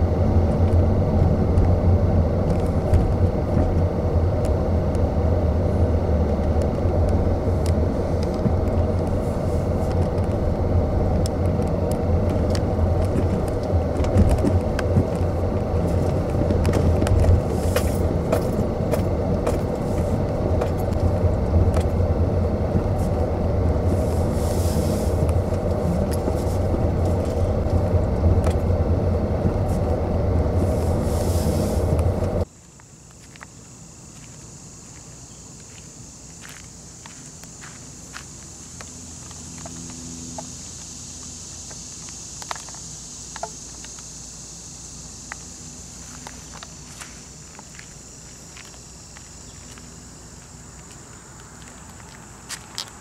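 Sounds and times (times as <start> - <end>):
low rumble of tyres and engine: 0.0 - 53.0.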